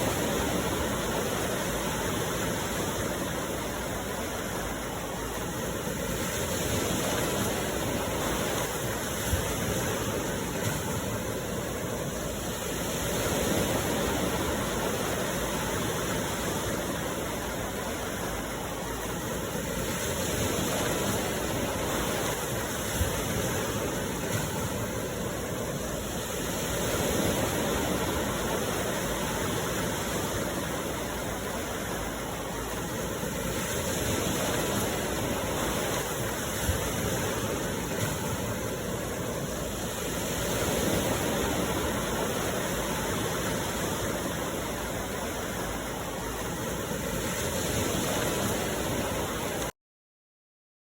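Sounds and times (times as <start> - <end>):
sea waves washing ashore: 0.0 - 49.7.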